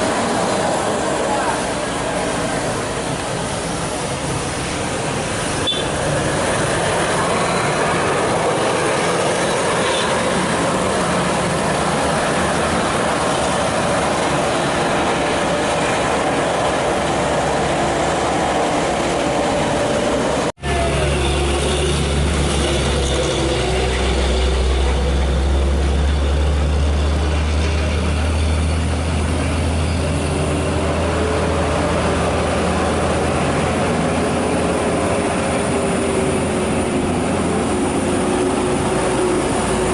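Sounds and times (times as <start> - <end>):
diesel engines climbing: 0.0 - 39.9
road noise: 0.0 - 39.9.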